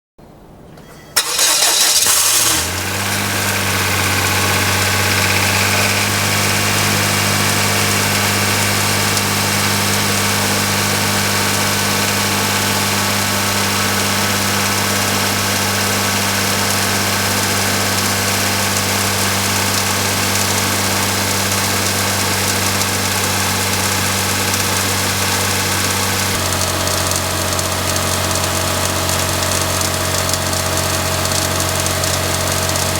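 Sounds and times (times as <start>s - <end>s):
car engine cranking: 0.6s - 32.9s
car engine idling: 0.7s - 32.9s.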